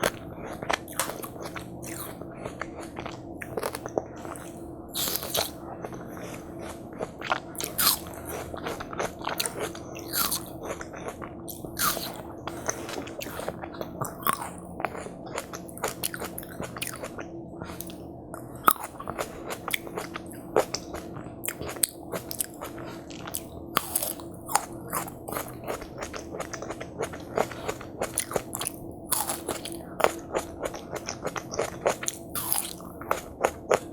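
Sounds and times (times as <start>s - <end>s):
crunchy watermelon bites: 0.0s - 5.6s, 6.2s - 18.0s, 18.6s - 33.9s
wet chewing: 0.0s - 33.9s.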